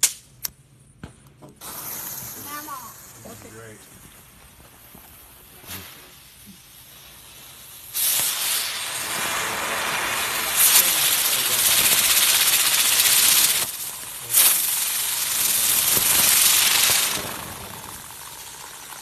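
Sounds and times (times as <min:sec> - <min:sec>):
firework hissing: 0:01.6 - 0:19.0.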